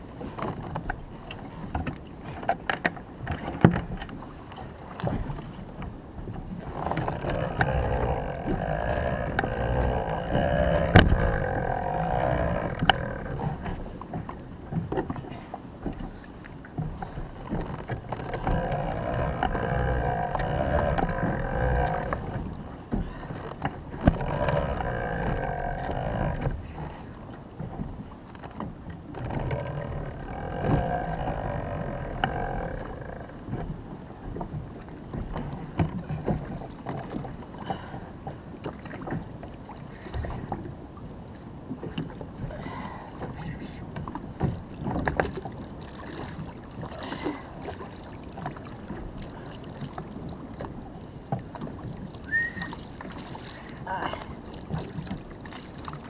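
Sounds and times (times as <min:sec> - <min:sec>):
water and wind rumble: 0:00.0 - 0:56.0.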